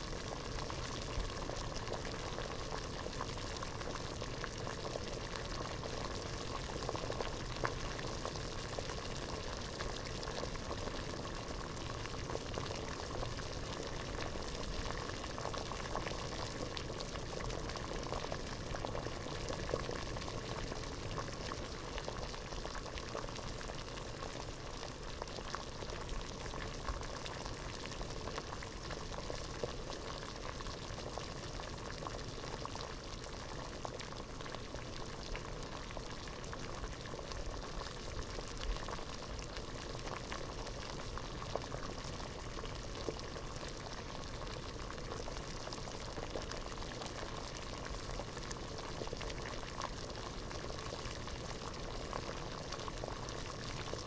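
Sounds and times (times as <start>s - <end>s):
water boiling in a pot: 0.0s - 54.0s.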